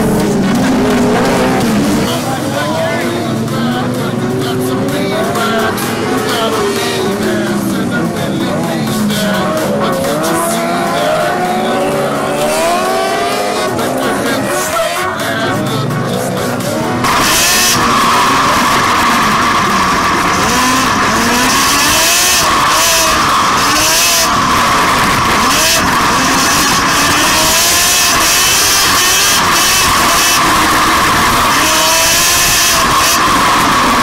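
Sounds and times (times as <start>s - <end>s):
lawnmower engine revving: 0.0s - 15.0s, 15.6s - 34.0s.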